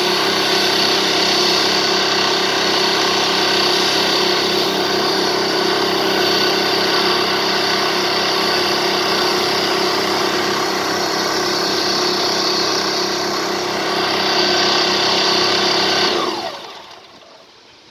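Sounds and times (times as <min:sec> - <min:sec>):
cart motor running and winding down: 0:00.0 - 0:17.7.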